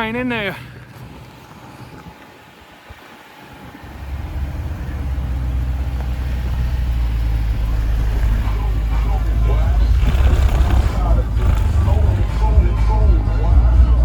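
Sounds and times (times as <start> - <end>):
vehicle engine rumbling: 0.6 - 14.0.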